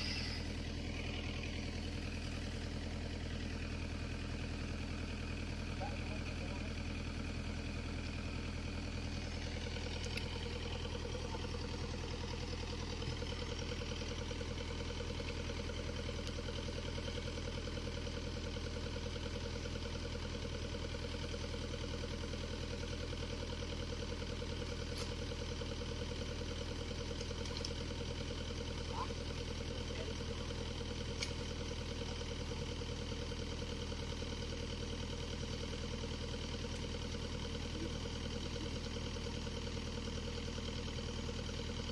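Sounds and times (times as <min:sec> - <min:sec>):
heavy machine engine idling: 0:00.0 - 0:41.9.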